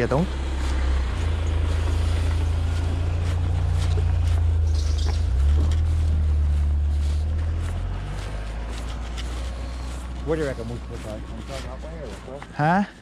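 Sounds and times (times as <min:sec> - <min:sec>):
van engine droning: 0:00.0 - 0:13.0.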